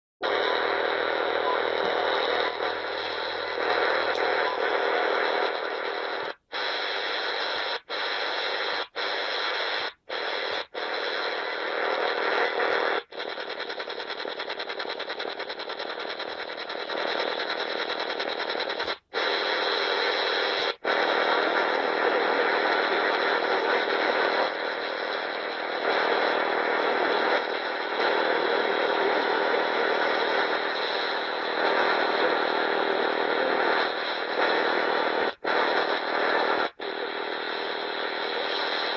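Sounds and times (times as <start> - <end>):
faint steady radio tones: 0.2 - 38.9
harsh radio noise signal: 0.2 - 38.9.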